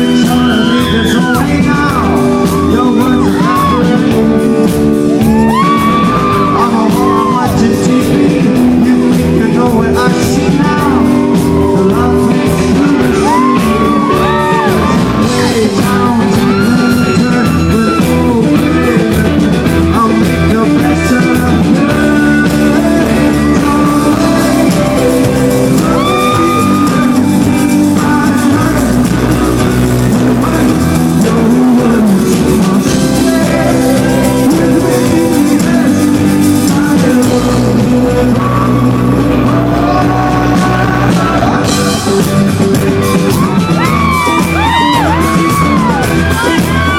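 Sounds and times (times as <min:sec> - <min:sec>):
lead vocalist singing: 0:00.0 - 0:46.9
rock band playing live: 0:00.0 - 0:46.9.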